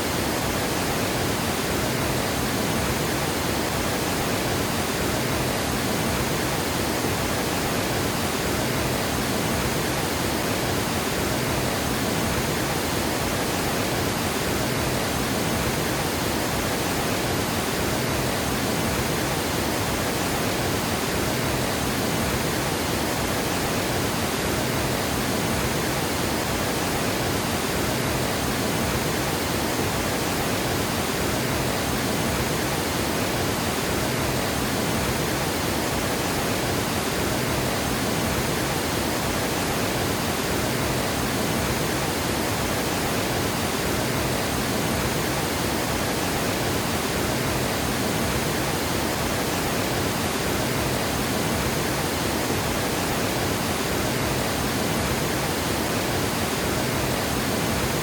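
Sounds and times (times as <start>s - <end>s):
water rushing over dam spillway: 0.0s - 58.0s.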